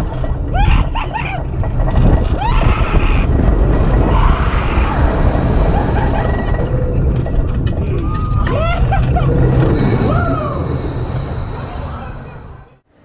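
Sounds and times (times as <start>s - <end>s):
wind rushing over microphone: 0.0s - 12.6s
roller coaster rumbling on track: 0.0s - 13.0s
riders screaming: 0.4s - 7.1s, 7.8s - 12.6s.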